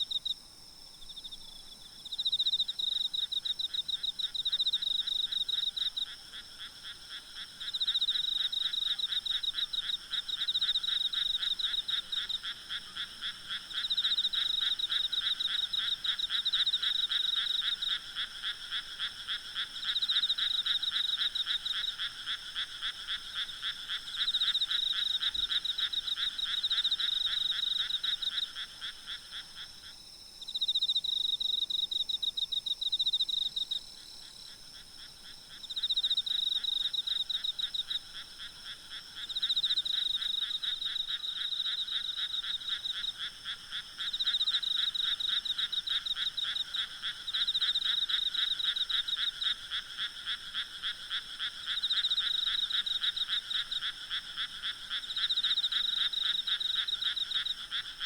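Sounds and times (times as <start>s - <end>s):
insects trilling: 0.0s - 58.0s
frogs chorusing: 2.0s - 58.0s.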